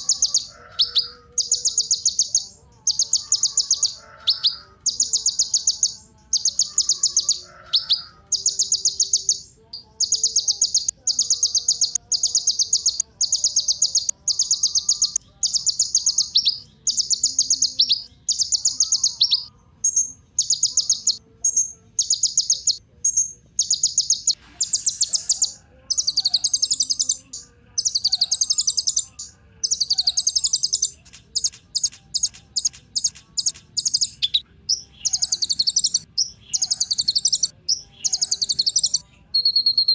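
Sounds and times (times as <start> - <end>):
bird singing rattling trills: 0.0 - 39.9.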